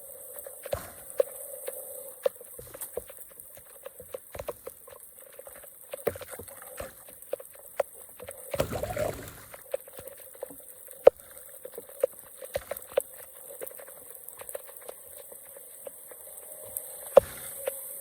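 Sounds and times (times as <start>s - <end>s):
water dripping and splashing: 0.0s - 18.0s.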